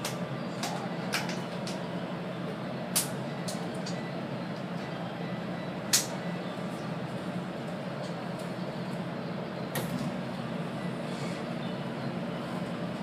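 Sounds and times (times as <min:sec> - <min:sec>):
train car hum: 0:00.0 - 0:13.0.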